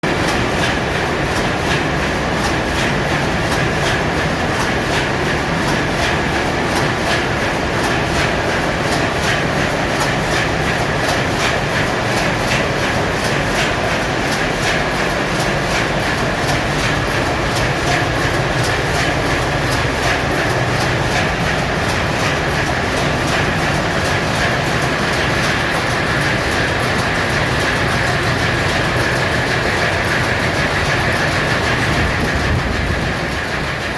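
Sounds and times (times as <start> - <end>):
engine room machinery hum: 0.0 - 33.9
rapid clatter of ticks: 0.2 - 33.9.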